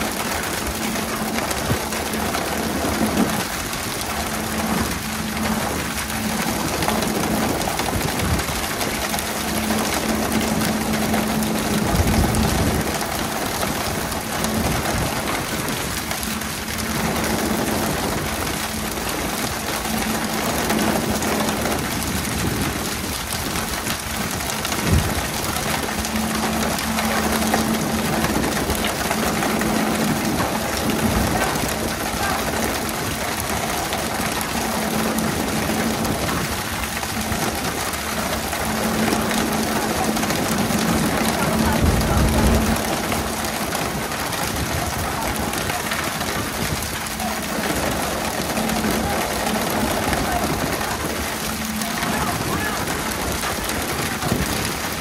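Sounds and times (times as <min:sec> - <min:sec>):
boat engine hum: 0:00.0 - 0:55.0
water sprayers hissing: 0:00.0 - 0:55.0.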